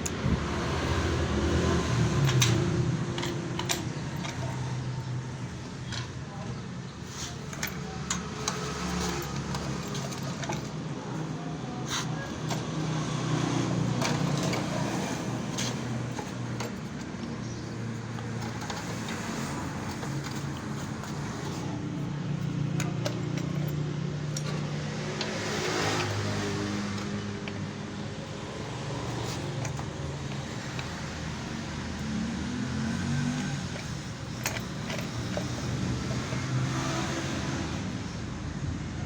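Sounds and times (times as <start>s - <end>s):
metallic clicks and clinks: 1.2s - 6.2s, 7.0s - 37.8s.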